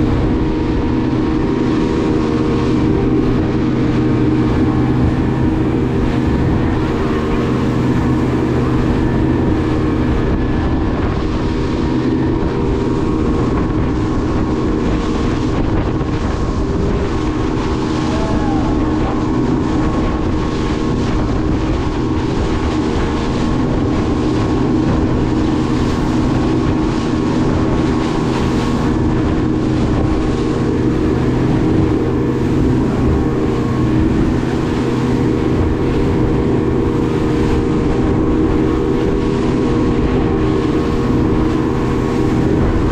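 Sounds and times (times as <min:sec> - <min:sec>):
motorboat engine running: 0:00.0 - 0:42.9
water rushing past hull: 0:00.0 - 0:42.9
wind on microphone: 0:00.0 - 0:42.9.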